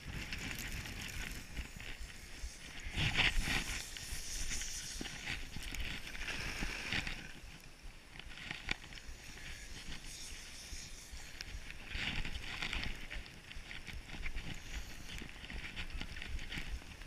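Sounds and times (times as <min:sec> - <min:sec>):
skis scraping on snow: 0:00.0 - 0:07.6, 0:08.3 - 0:17.0
wind rumble on microphone: 0:00.0 - 0:17.0.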